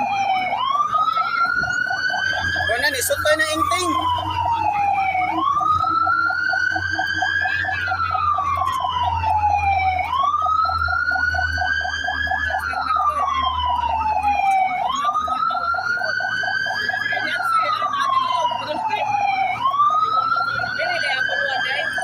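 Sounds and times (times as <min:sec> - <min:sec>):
fire truck siren wailing: 0:00.0 - 0:22.0.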